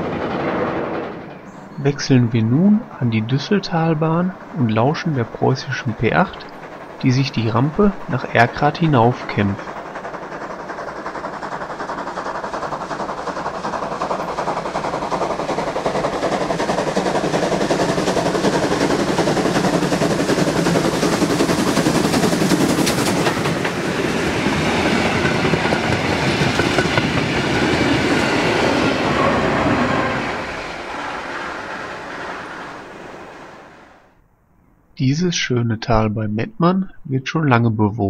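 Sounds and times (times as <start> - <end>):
wheels clattering on rails: 0.0 - 1.8, 4.2 - 33.5
steam locomotive exhaust beats: 0.0 - 32.9.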